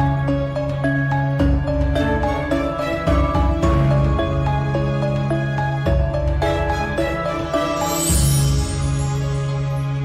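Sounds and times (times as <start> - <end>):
soft song with bass pulse: 0.0 - 10.0.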